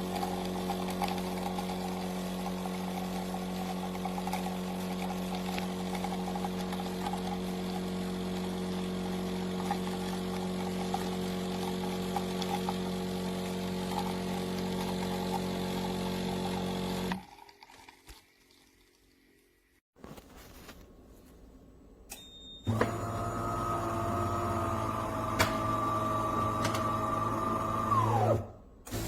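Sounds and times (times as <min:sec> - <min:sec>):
espresso machine motor hum: 0:00.0 - 0:17.2, 0:22.7 - 0:29.0.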